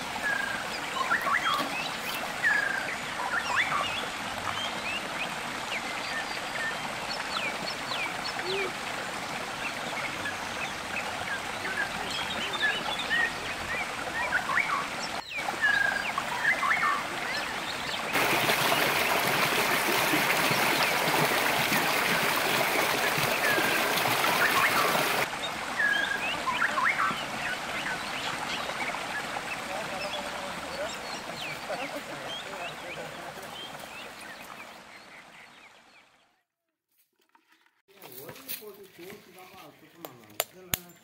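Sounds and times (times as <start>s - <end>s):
river water running over rocks: 0.0s - 35.4s.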